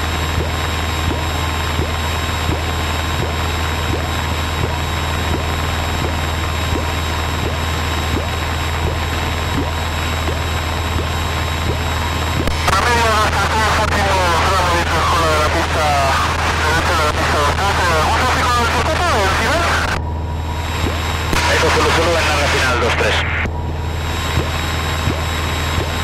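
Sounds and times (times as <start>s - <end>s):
aircraft engine drone in cabin: 0.0s - 26.0s.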